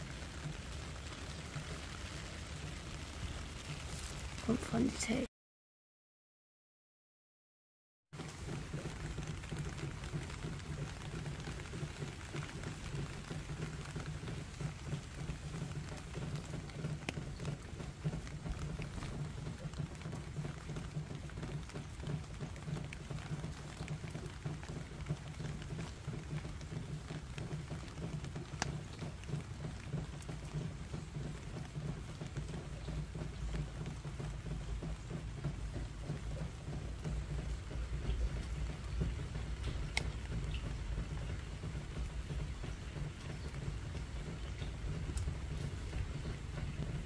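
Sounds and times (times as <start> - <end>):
rain on gravel and plastic: 0.0 - 5.3, 8.1 - 47.0.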